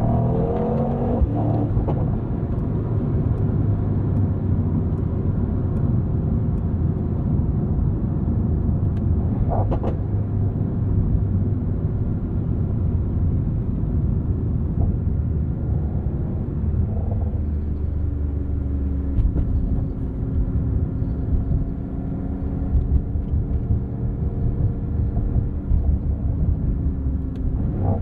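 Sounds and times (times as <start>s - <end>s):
low road rumble: 0.0s - 28.0s.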